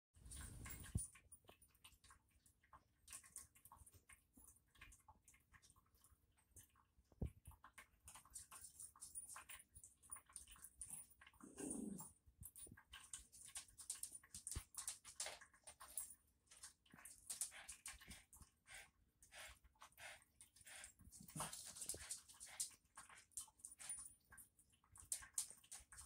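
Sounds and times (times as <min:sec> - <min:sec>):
dog lapping water: 0:00.3 - 0:26.0.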